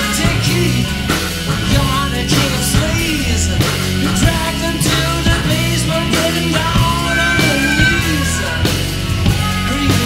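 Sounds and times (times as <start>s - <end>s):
blues-rock song: 0.0s - 10.0s
drums striking: 0.0s - 10.0s.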